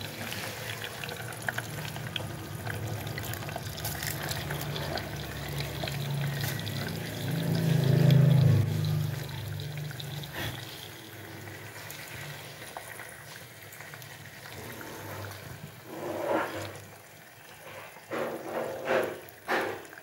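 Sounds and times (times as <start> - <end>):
water simmering: 0.0 - 20.0.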